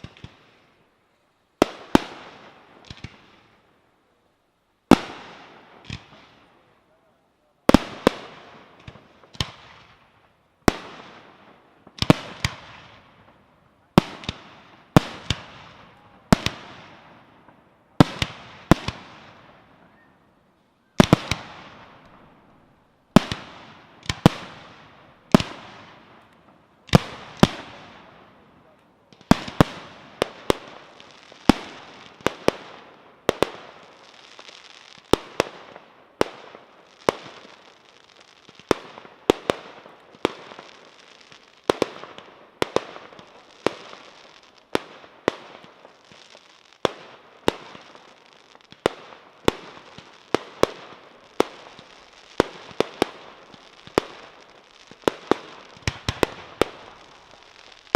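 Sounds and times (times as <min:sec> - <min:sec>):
firework crackle and hiss: 0:00.0 - 0:57.9
firework bangs: 0:07.6 - 0:19.9, 0:21.0 - 0:57.9.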